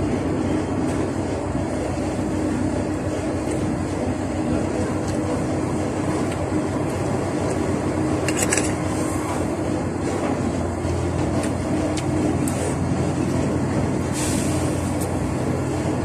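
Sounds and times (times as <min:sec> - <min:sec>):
loud rumbling background noise: 0:00.0 - 0:16.0.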